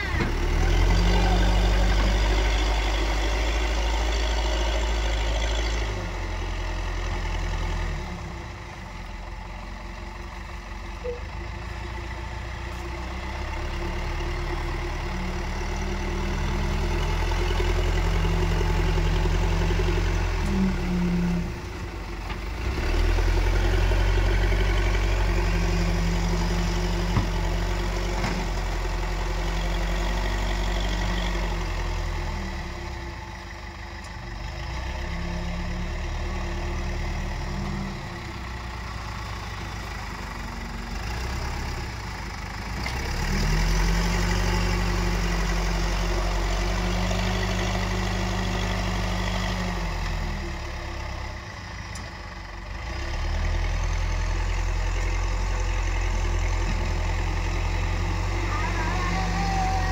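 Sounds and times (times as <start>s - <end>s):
diesel engine working: 0.0s - 59.9s.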